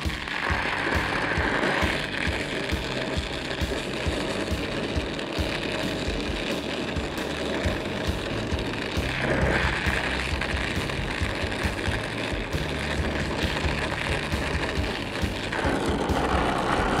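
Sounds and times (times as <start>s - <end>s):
background music: 0.0s - 17.0s
torch flame hissing: 0.0s - 17.0s.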